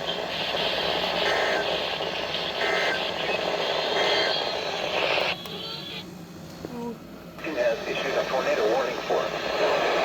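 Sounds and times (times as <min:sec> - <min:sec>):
radio hiss: 0:00.0 - 0:06.0, 0:07.4 - 0:10.0.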